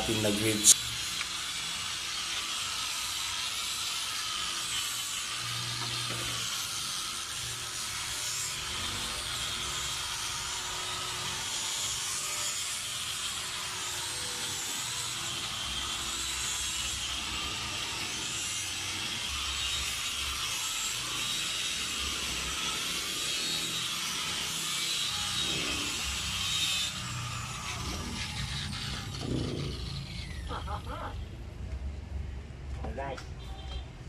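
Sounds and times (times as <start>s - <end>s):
polisher grinding stone: 0.0s - 30.8s.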